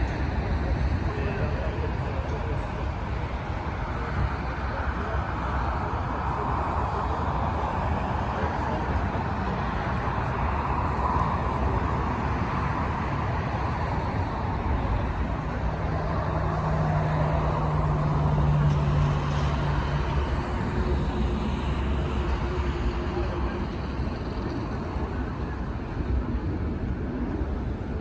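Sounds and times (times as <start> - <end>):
jet engines roaring: 0.0 - 28.0
road traffic: 0.0 - 28.0.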